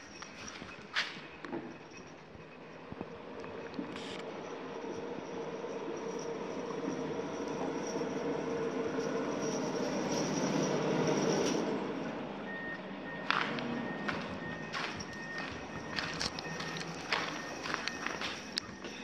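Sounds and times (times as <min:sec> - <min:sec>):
thin steady high tone: 0:00.0 - 0:19.0
vehicle running noise: 0:00.0 - 0:19.0.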